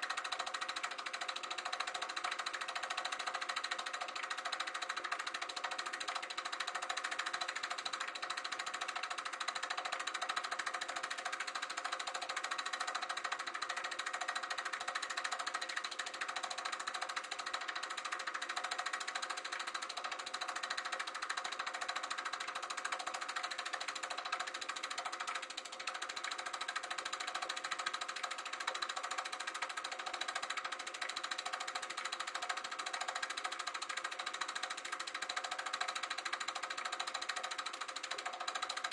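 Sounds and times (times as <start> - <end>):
film projector clatter: 0.0 - 38.9
motor hum: 0.0 - 38.9.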